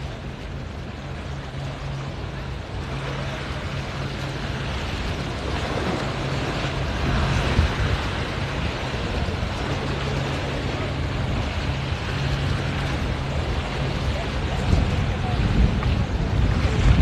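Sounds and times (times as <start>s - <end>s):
low engine hum: 0.0s - 17.0s
water noise: 0.0s - 17.0s.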